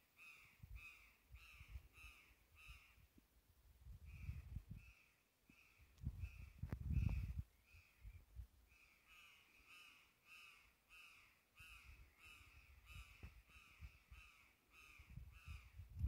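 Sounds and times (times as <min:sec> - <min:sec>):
faint bird calling: 0:00.0 - 0:03.2, 0:04.0 - 0:15.9.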